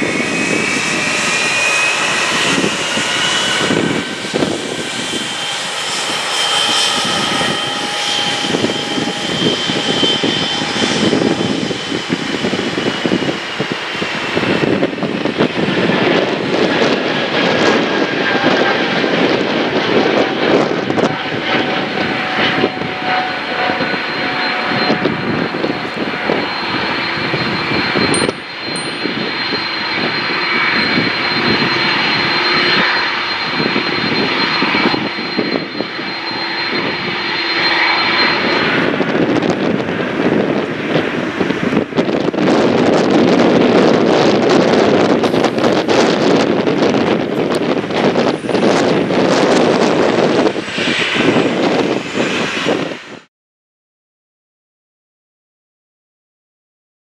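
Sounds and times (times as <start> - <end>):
jet engine whine: 0.0 - 53.3
jet engines rumbling: 0.0 - 53.3.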